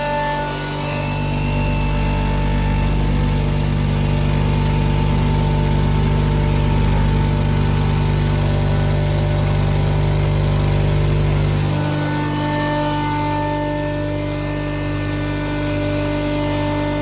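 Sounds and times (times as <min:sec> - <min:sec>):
flour mill humming: 0:00.0 - 0:17.0.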